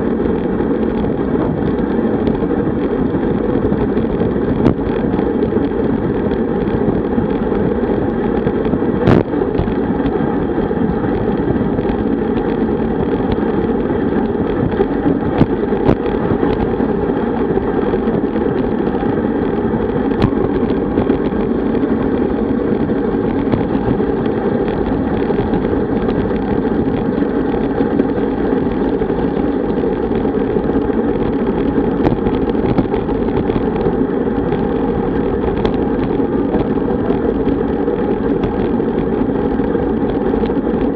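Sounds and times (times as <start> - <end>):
bike tyre noise: 0.0 - 40.9
wind rush over microphone: 0.0 - 40.9.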